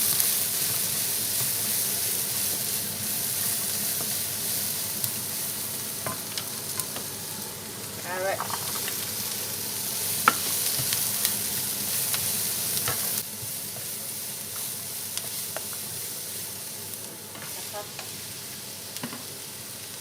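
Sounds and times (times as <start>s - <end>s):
onion and garlic sizzling in oil: 0.0s - 20.0s.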